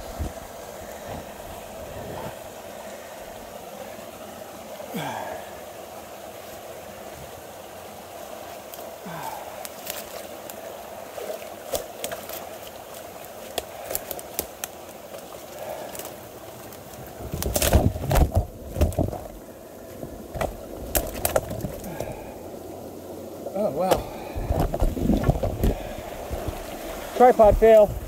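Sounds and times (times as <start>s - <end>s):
running water: 0.0s - 28.0s.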